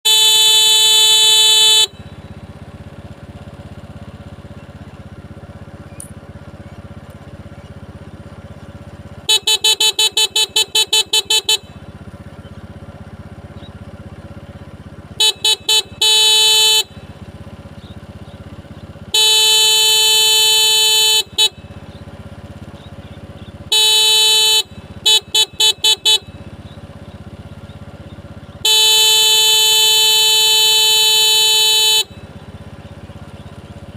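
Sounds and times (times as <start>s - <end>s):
motorcycle horn honking: 0.0s - 4.4s, 8.2s - 33.9s.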